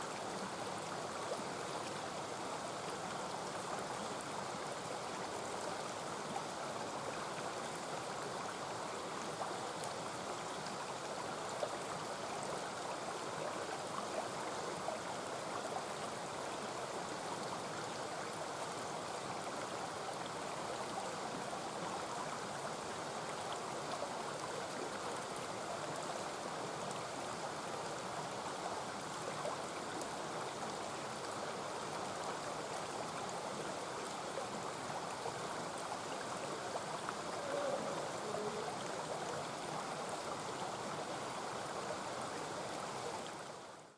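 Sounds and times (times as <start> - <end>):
stream flowing: 0.0 - 43.9.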